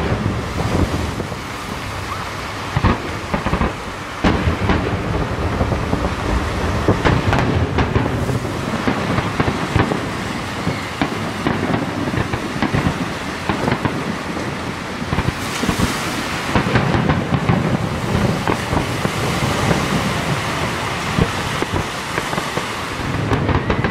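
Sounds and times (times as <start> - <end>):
firework shells bursting: 2.7 - 23.9.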